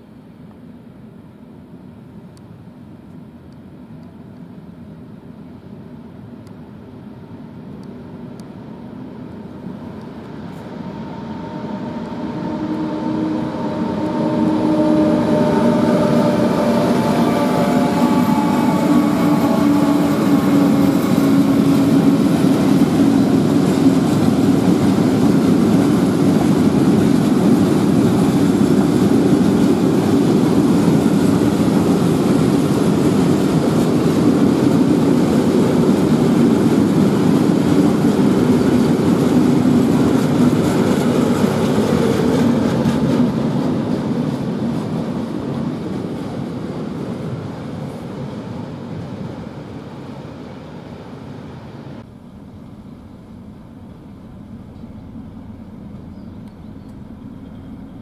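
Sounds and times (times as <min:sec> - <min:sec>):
diesel locomotive engine drone: 0:00.0 - 0:58.0
freight wagons rumbling on rails: 0:09.4 - 0:50.2, 0:52.0 - 0:58.0.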